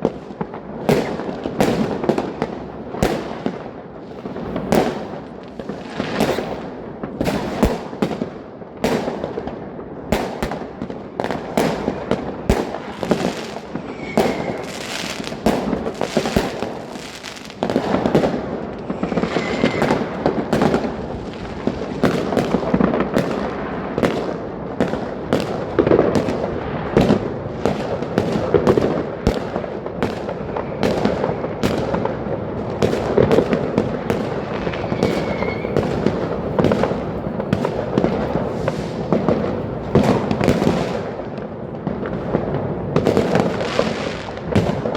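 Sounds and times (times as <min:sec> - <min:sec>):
fireworks and firecrackers banging: 0:00.0 - 0:44.9.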